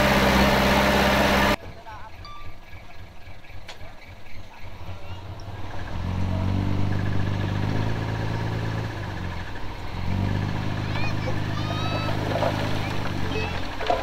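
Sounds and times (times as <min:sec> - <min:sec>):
heavy diesel engine rumbling: 0:00.0 - 0:14.0.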